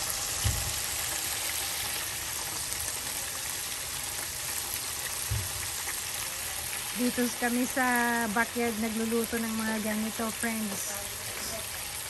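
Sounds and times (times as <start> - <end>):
oil sizzling in deep fryer: 0.0 - 12.0.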